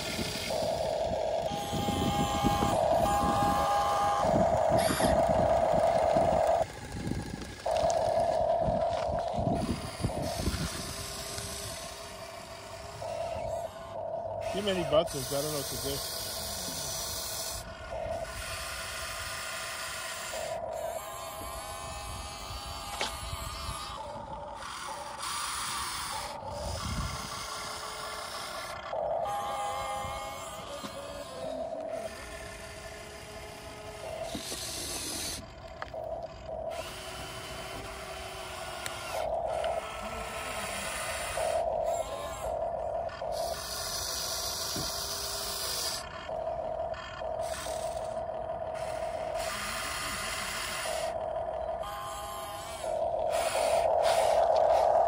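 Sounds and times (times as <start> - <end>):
small electric motors whirring: 0.0 - 55.0.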